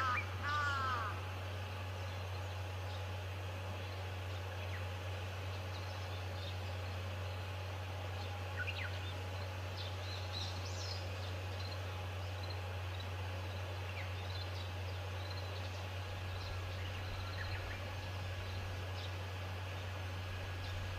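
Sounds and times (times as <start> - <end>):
steady low hum: 0.0 - 20.9
small birds chirping: 2.0 - 20.9.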